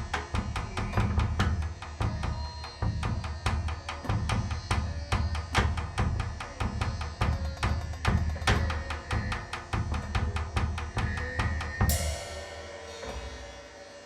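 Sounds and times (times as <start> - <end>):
fast percussion strikes: 0.0 - 14.0.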